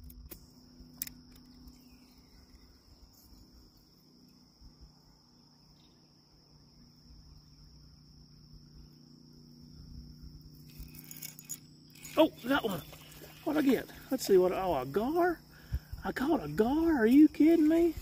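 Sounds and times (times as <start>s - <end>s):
high-pitched insect trilling: 0.2s - 18.0s.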